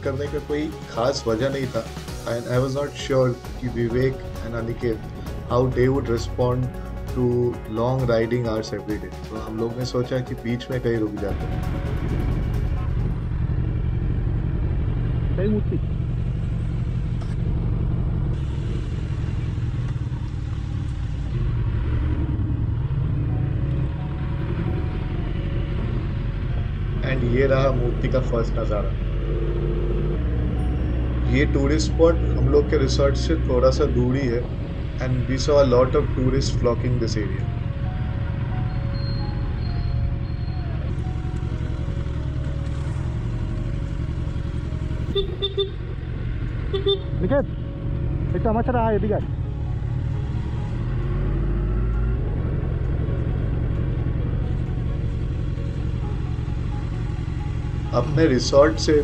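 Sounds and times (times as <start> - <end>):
motorcycle engine rumbling: 0.0 - 59.0
road noise: 0.0 - 59.0.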